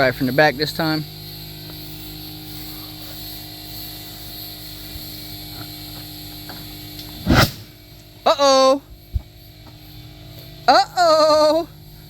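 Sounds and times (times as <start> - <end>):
machine droning steadily: 0.0 - 12.0.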